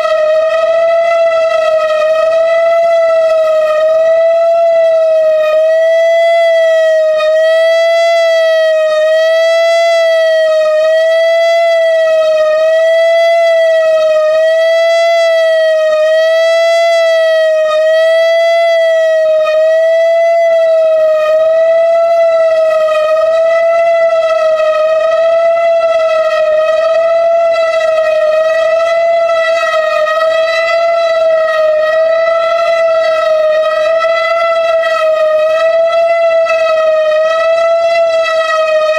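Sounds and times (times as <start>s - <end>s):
tornado siren steady tone: 0.0s - 38.9s.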